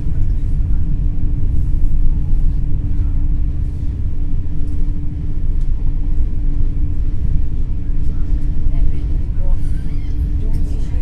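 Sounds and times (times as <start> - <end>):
constant hum: 0.0 - 11.0
train running gear rumble: 0.0 - 11.0.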